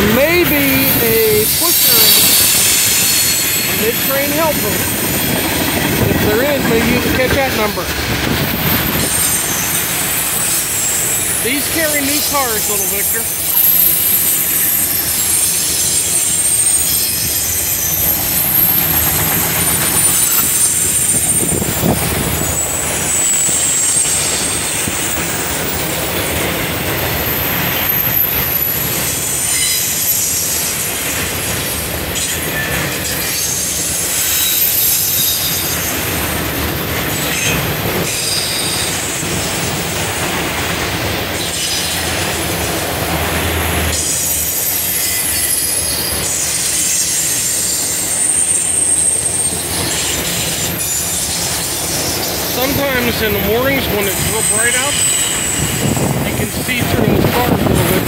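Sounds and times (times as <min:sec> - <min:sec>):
freight train rumbling past: 0:00.0 - 0:58.0
train wheels squealing on rails: 0:00.0 - 0:58.0.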